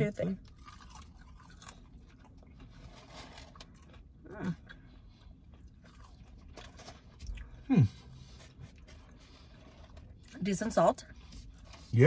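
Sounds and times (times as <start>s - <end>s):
chewing french fries: 0.3s - 12.0s.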